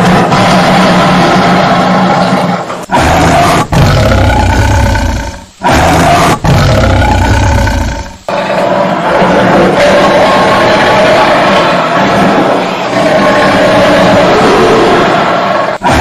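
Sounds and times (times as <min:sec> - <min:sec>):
tiger roaring: 0:00.0 - 0:16.0.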